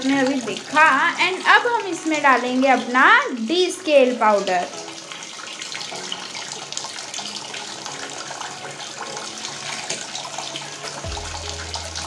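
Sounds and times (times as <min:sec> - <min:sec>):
water splashing into washing machine: 0:00.0 - 0:12.0.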